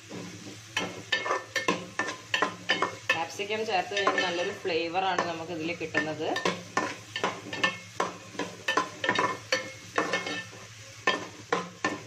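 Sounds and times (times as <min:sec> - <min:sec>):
metal spatula scraping a pot: 0:00.0 - 0:03.2, 0:03.9 - 0:12.0
vegetables sizzling in oil: 0:00.0 - 0:12.0.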